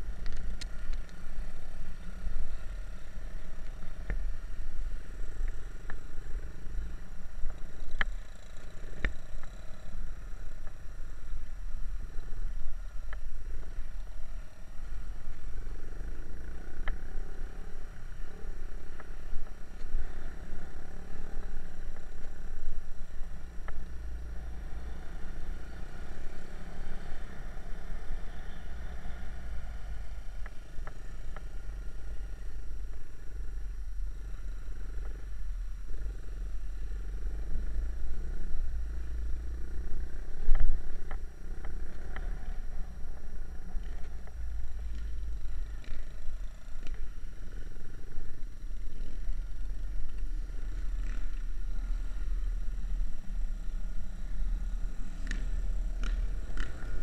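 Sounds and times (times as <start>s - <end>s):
motorbike engines running: 0.0s - 57.0s.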